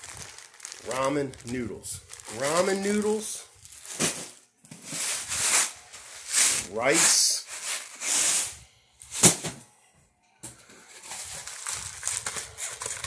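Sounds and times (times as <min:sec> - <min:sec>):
food packages rustling: 0:00.0 - 0:09.5, 0:10.5 - 0:13.0.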